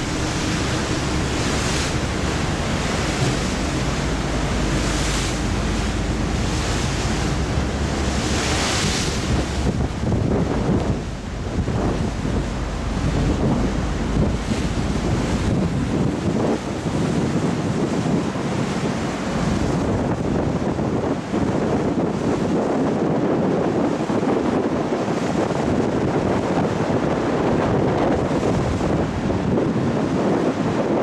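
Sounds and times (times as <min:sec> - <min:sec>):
wash of the sea: 0:00.0 - 0:31.0
wind buffeting microphone: 0:00.0 - 0:31.0.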